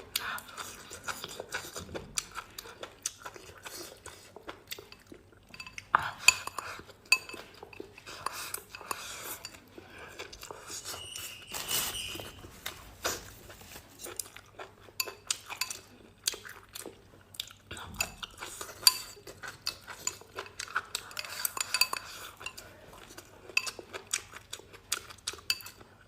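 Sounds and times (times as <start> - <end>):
utensils clinking against a bowl: 0.4 - 12.8, 13.5 - 16.4, 17.7 - 24.4, 25.0 - 25.9.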